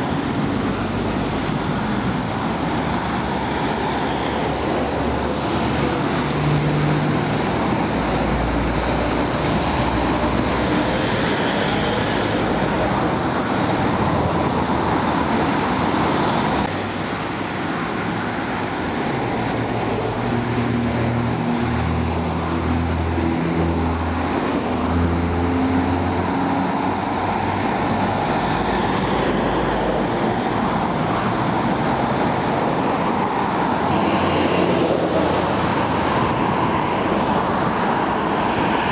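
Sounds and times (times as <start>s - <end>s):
cars and trucks passing: 0.0s - 38.9s.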